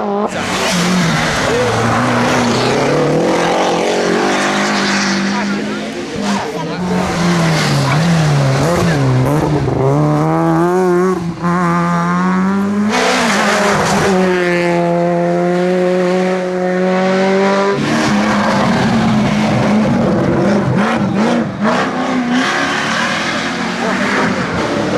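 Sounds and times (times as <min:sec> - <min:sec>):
rally car engine at high revs: 0:00.0 - 0:24.9.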